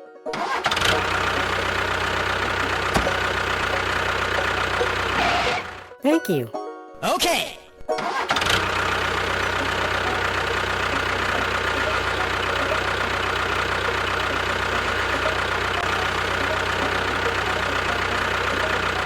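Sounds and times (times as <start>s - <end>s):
motor running steadily: 0.7s - 5.9s, 8.4s - 19.0s.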